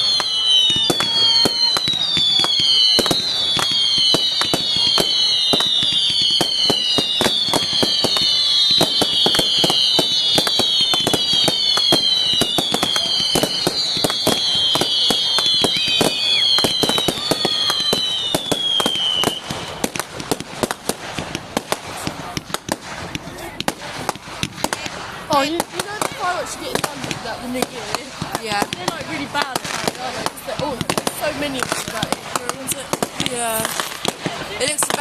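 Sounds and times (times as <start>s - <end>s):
crackling firework bangs: 0.0s - 35.0s
whistling fireworks: 0.0s - 35.0s.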